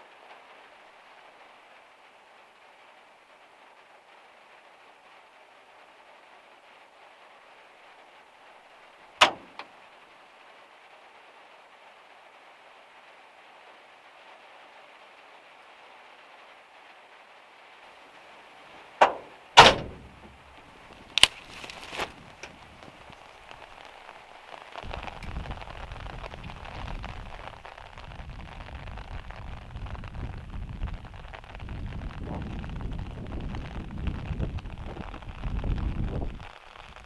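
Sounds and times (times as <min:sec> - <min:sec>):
rain drumming on metal roof: 0:00.0 - 0:37.0.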